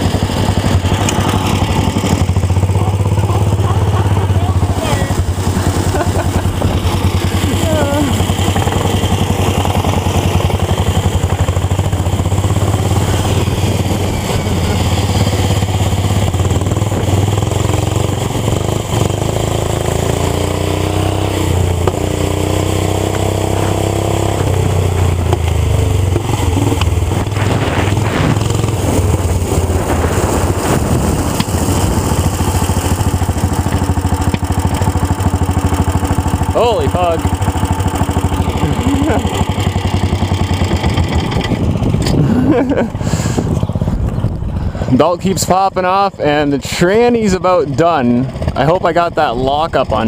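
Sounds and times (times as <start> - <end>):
engine note rising and falling: 0.0 - 50.0
small gas engines droning: 0.0 - 50.0.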